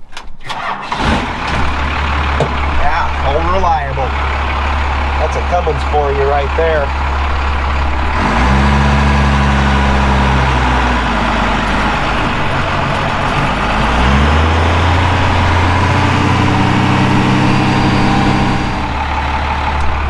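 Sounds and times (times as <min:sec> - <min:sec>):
diesel engine running: 0:00.5 - 0:20.0.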